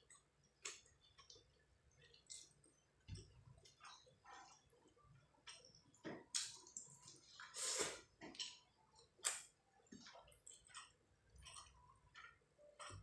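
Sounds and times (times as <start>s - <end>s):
wet chewing mouth sounds: 0.0s - 13.0s.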